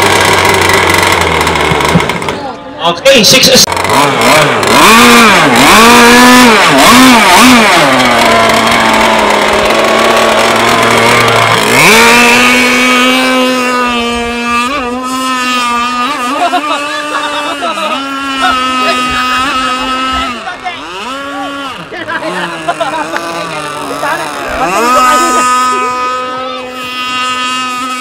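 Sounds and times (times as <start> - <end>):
model boat engine revving: 0.0 - 28.0.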